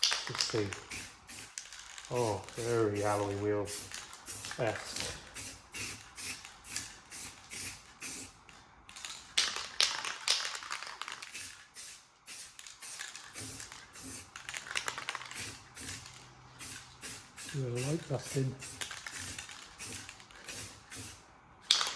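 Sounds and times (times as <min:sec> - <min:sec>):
spray-paint can hissing: 0:00.3 - 0:08.4, 0:09.9 - 0:21.9.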